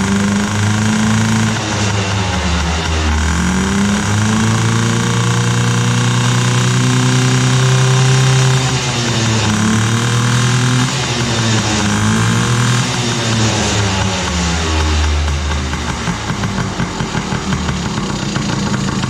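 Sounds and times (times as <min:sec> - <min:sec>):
small two-stroke engine revving: 0:00.0 - 0:19.0.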